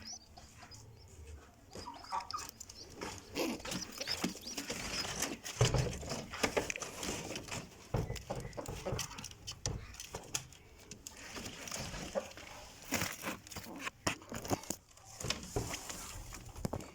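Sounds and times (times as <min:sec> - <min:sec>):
pigeons rustling in nest: 0:00.0 - 0:16.9.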